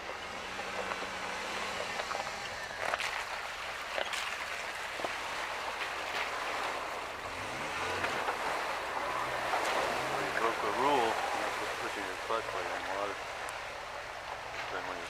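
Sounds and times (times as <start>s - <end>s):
truck engine revving: 0.0s - 15.0s
water splashing and sloshing: 0.0s - 15.0s.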